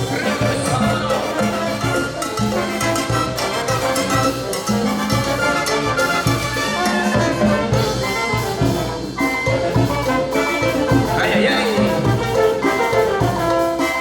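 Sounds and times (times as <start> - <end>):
bass and percussion beat: 0.0 - 14.0
trumpets and trombones melody: 0.0 - 14.0.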